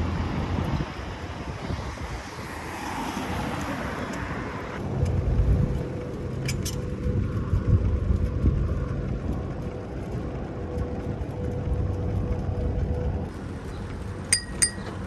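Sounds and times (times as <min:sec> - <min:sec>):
traffic rushing by: 0:00.0 - 0:15.0.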